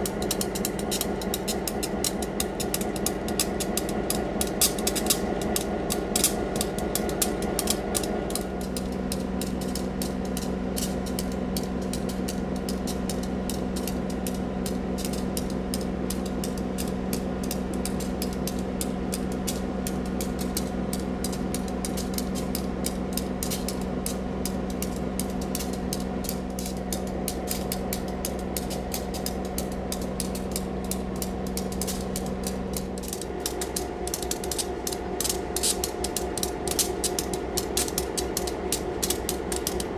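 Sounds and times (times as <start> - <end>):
diesel locomotive engine rattling: 0.0 - 39.9.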